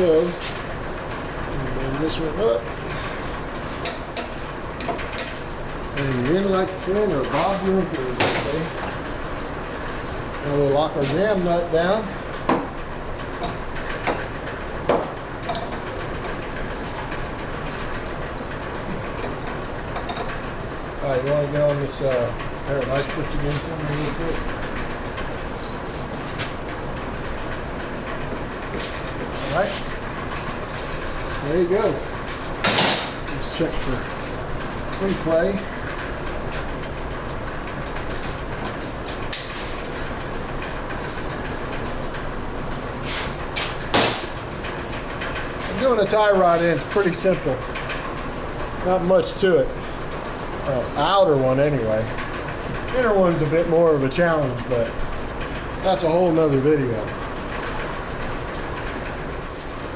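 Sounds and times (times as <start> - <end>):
steady background noise: 0.0 - 59.9.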